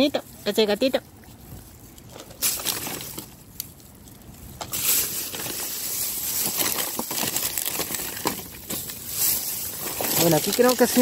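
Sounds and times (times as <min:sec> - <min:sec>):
plastic bag rustling: 0:01.3 - 0:11.0.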